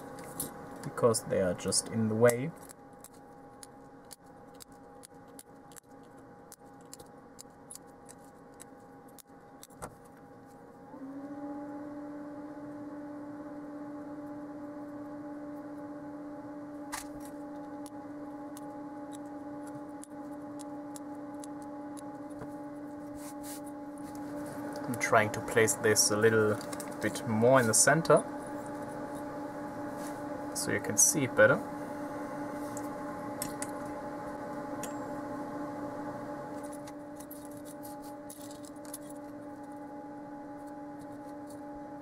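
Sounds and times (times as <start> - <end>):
fume extractor fans humming: 0.0 - 42.0.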